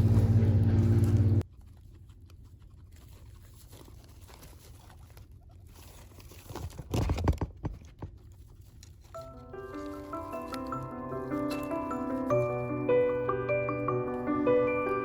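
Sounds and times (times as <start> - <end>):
guinea pigs scuffling in bedding: 0.0 - 15.0.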